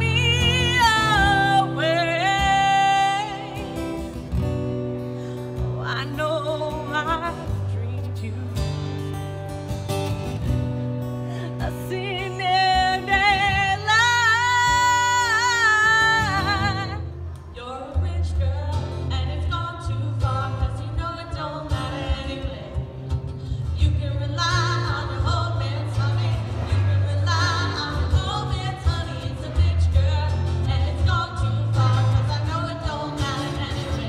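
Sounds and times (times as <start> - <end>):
woman singing into microphone: 0.0 - 4.2, 5.4 - 9.0, 11.3 - 34.0
guitar accompaniment: 0.0 - 34.0.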